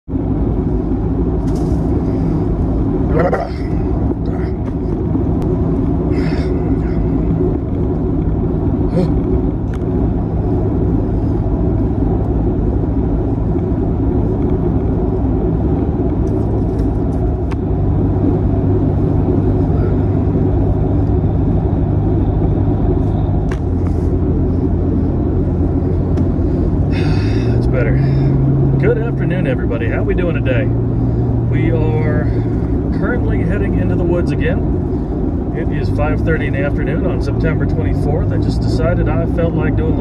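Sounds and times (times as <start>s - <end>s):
car engine hum: 0.0s - 40.0s
road rumble: 0.0s - 40.0s.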